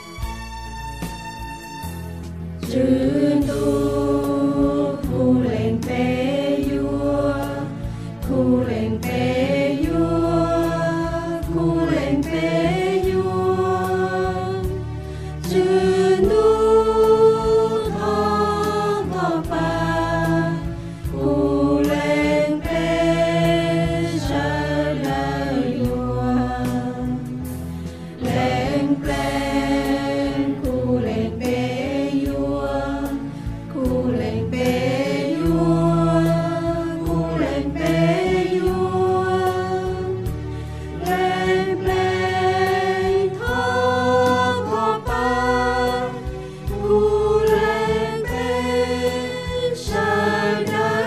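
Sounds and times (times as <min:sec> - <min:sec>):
low musical accompaniment: 0:00.0 - 0:51.0
voices singing slow chant: 0:02.6 - 0:51.0.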